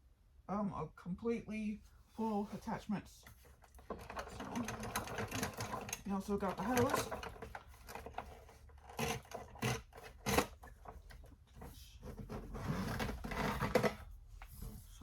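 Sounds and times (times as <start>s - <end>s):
vacuum hose rubbing and scraping: 2.1s - 15.0s.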